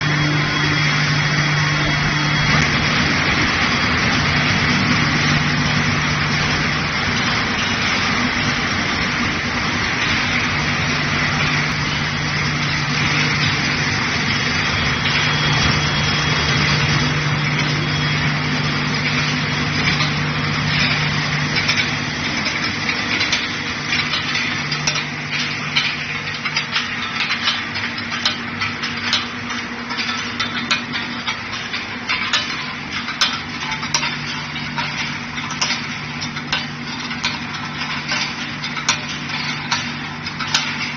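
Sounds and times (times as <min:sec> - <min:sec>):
loud steady machine hum: 0:00.0 - 0:40.9.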